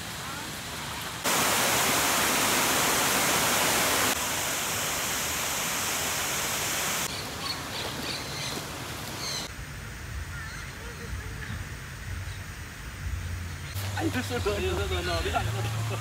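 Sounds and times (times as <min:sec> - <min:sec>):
outdoor ambience: 0:00.0 - 0:16.0.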